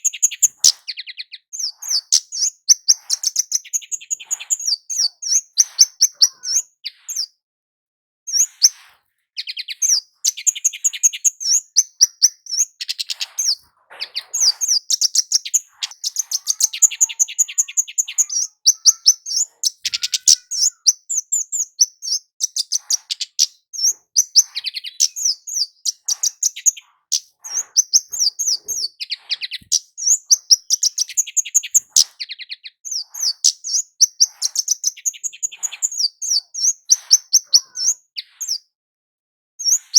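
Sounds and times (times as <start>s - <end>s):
bird calling and singing: 0.0s - 7.4s, 8.3s - 38.7s, 39.6s - 39.9s.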